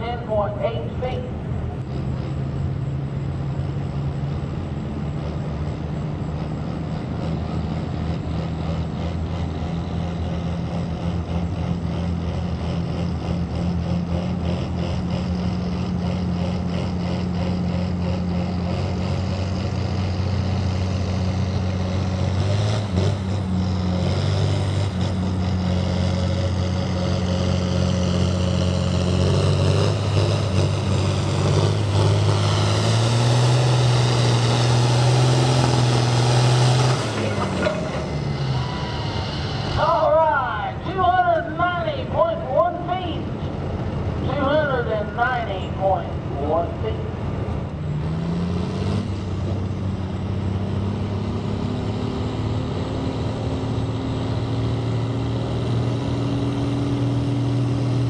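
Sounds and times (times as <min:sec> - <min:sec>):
tractor engine under heavy load: 0:00.0 - 0:58.0.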